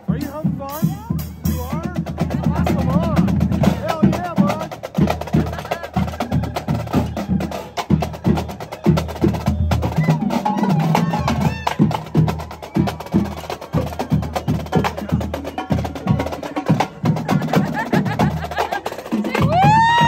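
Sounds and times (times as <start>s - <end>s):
crowd: 0.0s - 20.0s
marching drumline cadence: 0.0s - 20.0s.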